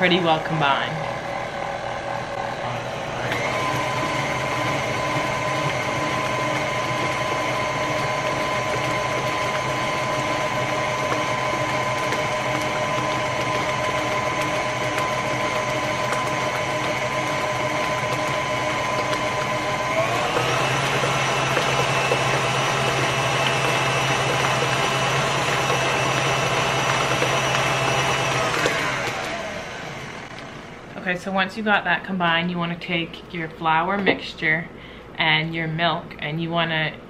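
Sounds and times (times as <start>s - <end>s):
stand mixer motor whining: 0.0s - 31.0s.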